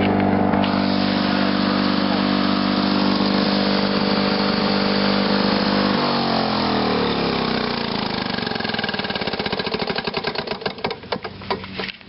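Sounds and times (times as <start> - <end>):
engine winding down: 0.0 - 11.4
two-stroke mower engine running: 0.0 - 12.0.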